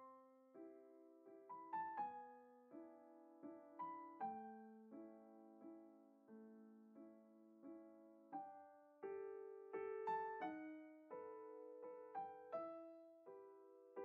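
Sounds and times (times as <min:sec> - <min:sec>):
quiet piano music: 0:00.0 - 0:14.0.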